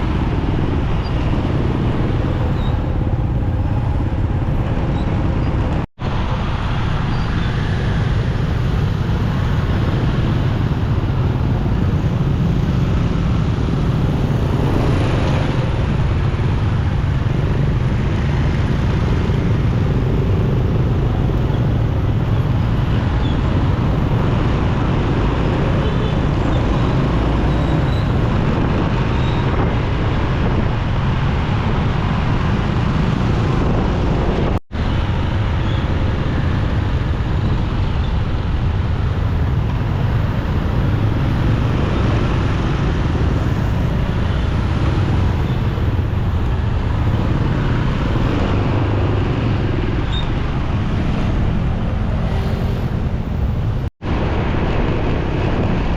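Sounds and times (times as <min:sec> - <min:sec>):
traffic rumble and road noise: 0:00.0 - 0:55.9
wind on microphone: 0:00.0 - 0:55.9.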